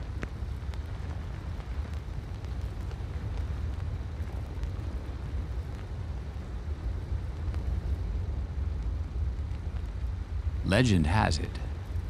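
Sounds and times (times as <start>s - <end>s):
faint crackles: 0.0s - 12.0s.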